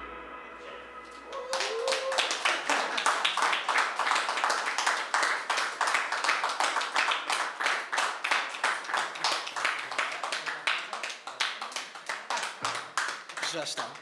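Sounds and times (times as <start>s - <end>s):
people clapping: 1.1s - 14.0s.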